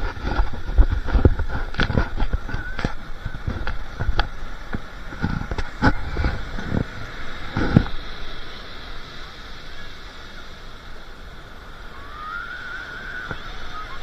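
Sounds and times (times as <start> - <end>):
ocean surf washing over sand: 0.0 - 14.0.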